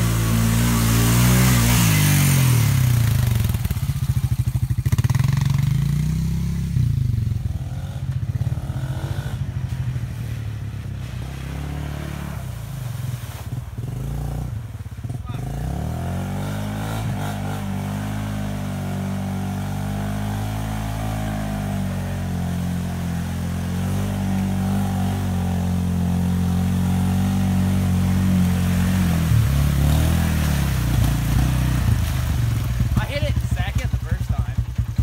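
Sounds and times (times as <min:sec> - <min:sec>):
atv engine in mud: 0:00.0 - 0:35.0.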